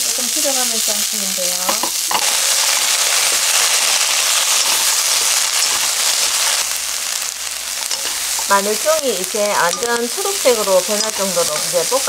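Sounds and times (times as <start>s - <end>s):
food sizzling and crackling in oil: 0.0s - 12.0s.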